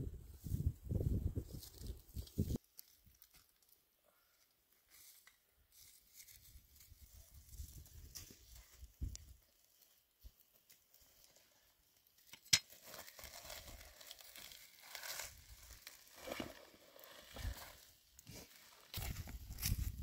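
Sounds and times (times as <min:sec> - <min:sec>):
dry crinkling and rustling: 0:01.5 - 0:20.0.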